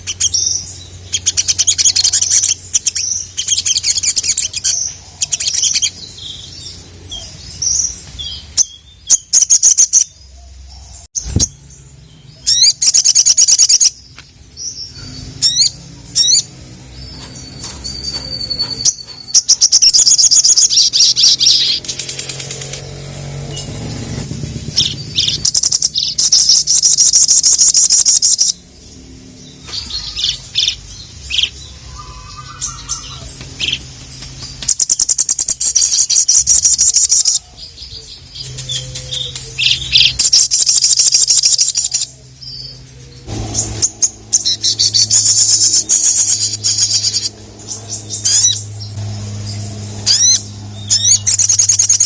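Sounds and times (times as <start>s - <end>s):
bird chirps and trills: 0.0s - 52.0s.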